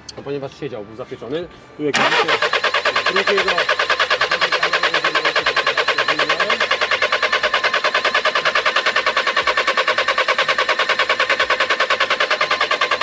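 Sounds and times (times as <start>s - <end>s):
starter motor cranking diesel engine: 1.9s - 13.0s.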